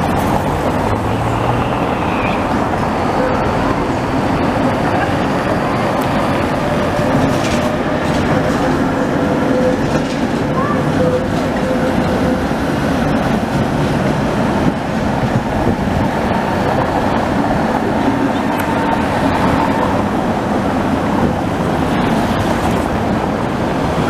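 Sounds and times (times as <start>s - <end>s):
cars driving over cobblestones: 0.0s - 24.0s
tram wheels rumbling on rails: 0.0s - 24.0s.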